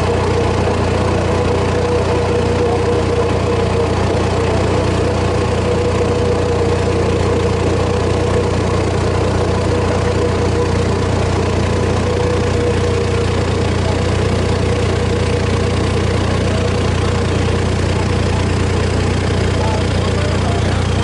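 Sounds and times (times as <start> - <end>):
stone crusher engine drone: 0.0 - 21.0.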